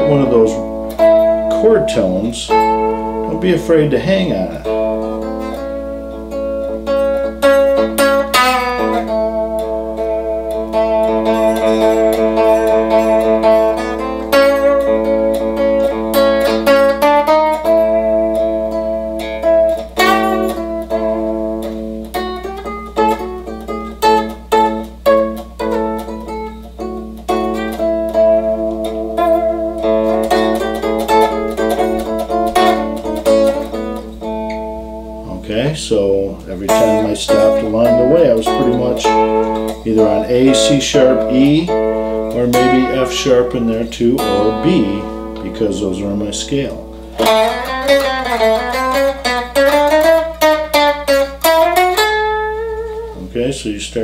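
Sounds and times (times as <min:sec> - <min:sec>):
electric guitar blues line: 0:00.0 - 0:54.0.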